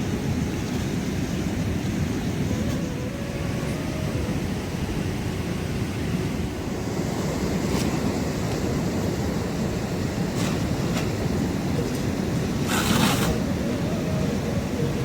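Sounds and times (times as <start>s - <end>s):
mountain river roaring: 0.0s - 15.0s.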